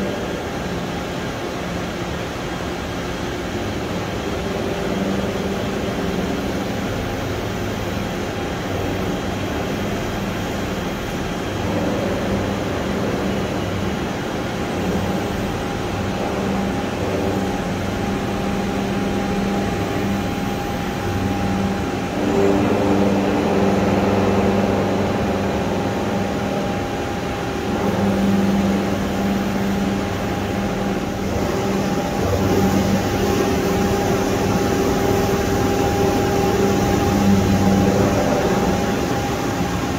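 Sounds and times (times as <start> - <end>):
boring mill mechanical hum: 0.0 - 39.9.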